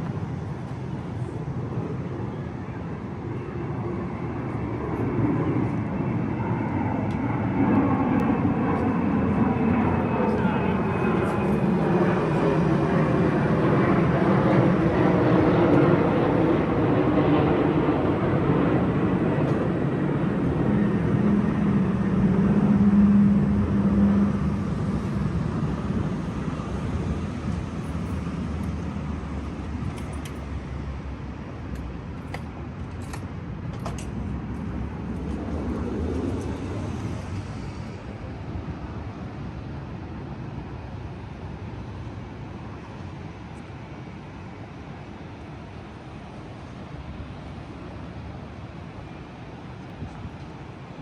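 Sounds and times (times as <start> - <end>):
airplane passing overhead: 0.0 - 51.0.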